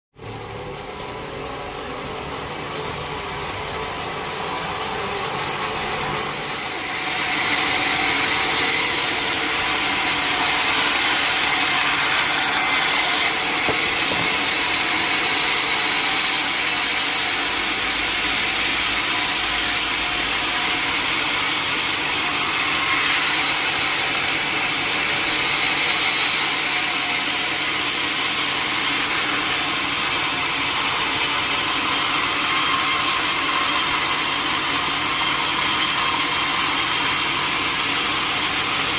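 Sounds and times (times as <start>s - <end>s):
saw blade cutting through log: 6.6s - 38.9s.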